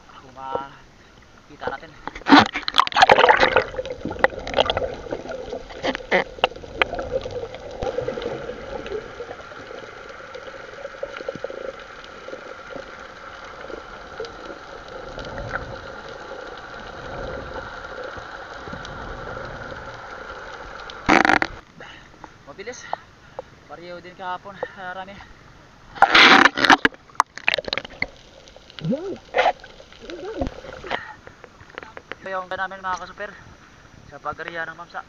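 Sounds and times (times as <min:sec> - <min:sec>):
water gurgling and sloshing: 0:00.0 - 0:21.7, 0:25.4 - 0:32.1.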